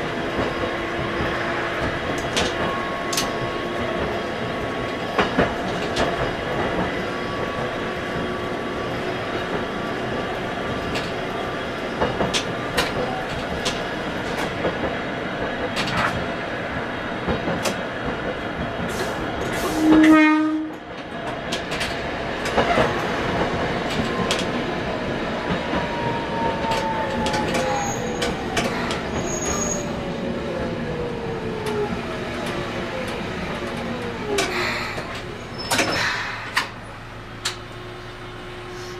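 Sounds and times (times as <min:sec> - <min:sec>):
tram wheels rumbling on rail: 0:00.0 - 0:38.9.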